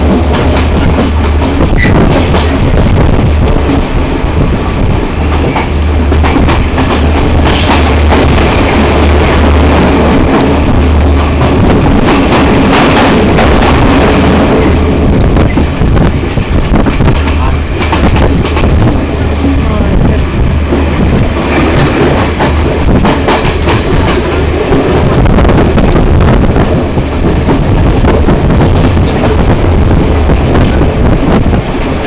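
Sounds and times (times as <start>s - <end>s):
train rumbling on rails: 0.0s - 32.0s.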